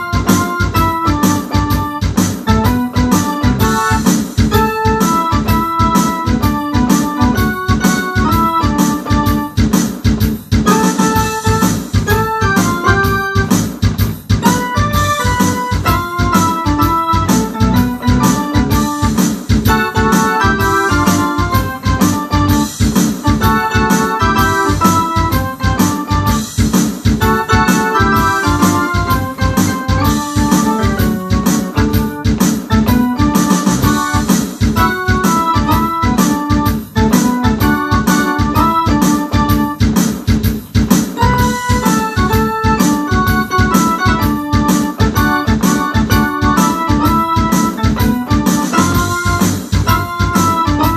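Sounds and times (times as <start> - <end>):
steady drum beat: 0.0 - 50.9
synthesizer chords and melody: 0.0 - 50.9.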